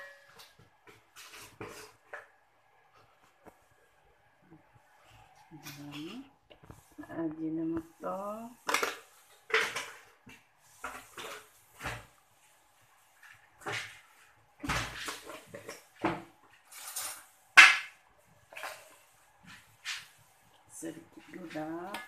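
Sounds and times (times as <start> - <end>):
wooden spatula scraping a wok: 0.0 - 2.2, 4.8 - 22.0.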